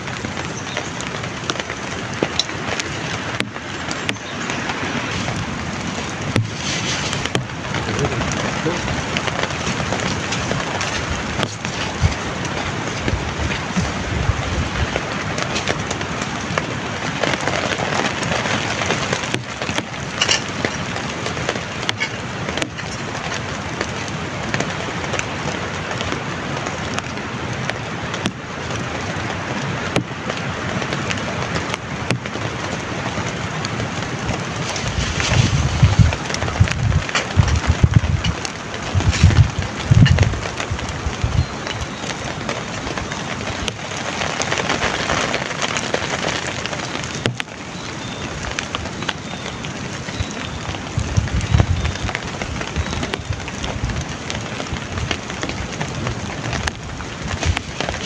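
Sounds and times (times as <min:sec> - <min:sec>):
heavy rain: 0:00.0 - 0:58.0
wind gusts on microphone: 0:00.0 - 0:58.0.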